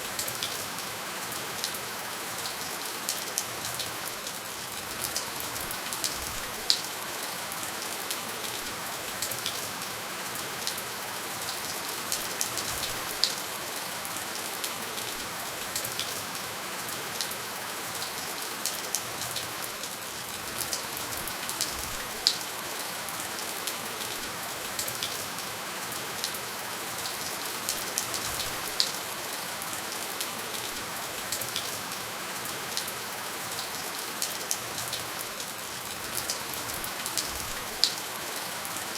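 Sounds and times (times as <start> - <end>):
raindrops ticking on a surface: 0.0 - 38.9
steady rainfall hiss: 0.0 - 38.9.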